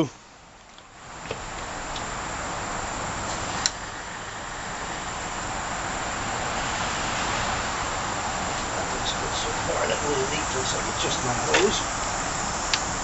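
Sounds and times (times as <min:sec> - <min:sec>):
water rushing through pump: 0:01.4 - 0:13.0.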